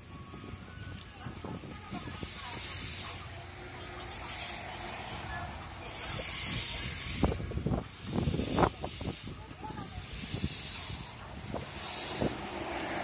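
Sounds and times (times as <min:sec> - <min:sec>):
steam locomotive hissing: 0:00.0 - 0:13.0
carriages rumbling past: 0:01.6 - 0:08.0, 0:08.8 - 0:13.0.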